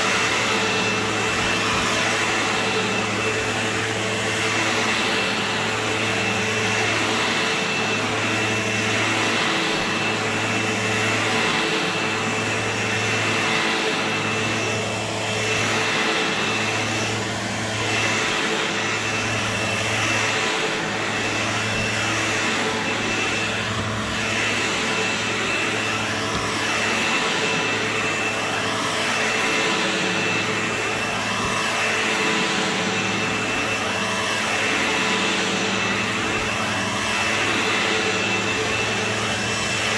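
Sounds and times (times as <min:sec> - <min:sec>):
upright vacuum cleaner on carpet: 0:00.0 - 0:39.9.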